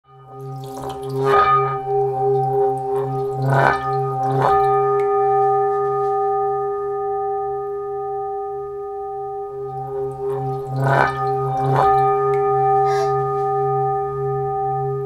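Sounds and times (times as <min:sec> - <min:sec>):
singing bowl struck and ringing: 0:00.1 - 0:15.0.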